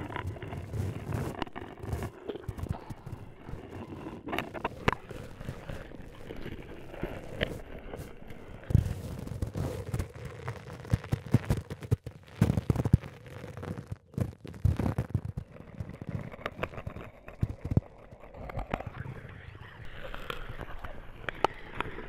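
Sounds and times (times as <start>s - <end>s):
crackling clicks: 0.0s - 22.0s
grainy noise: 0.0s - 22.0s.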